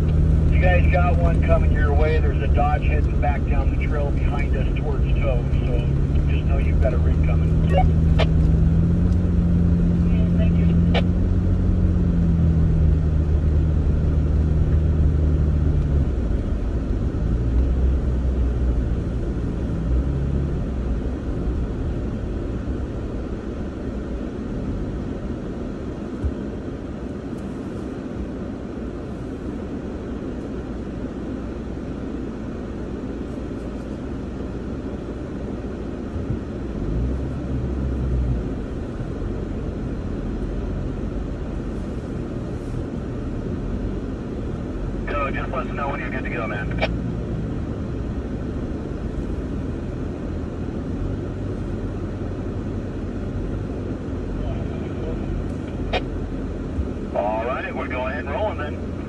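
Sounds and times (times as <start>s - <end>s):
tyres on dirt road noise: 0.0s - 27.4s, 33.4s - 59.0s
vehicle engine rumble: 0.0s - 59.0s.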